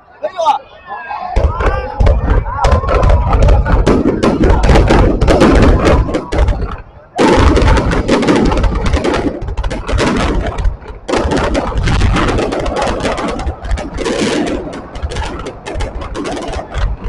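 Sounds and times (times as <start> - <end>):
fireworks crackling bursts: 1.3 - 17.0
fireworks low thuds: 1.3 - 17.0.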